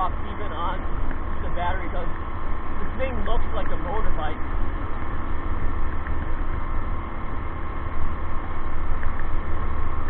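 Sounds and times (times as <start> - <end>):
small generator engine drone: 0.0 - 10.0.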